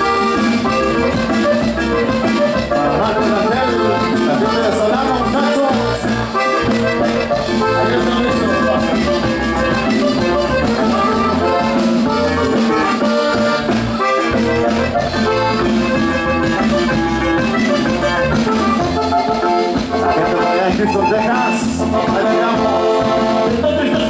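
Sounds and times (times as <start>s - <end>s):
accordion-led dance band: 0.0s - 24.0s
pulsing bass line: 0.0s - 24.0s.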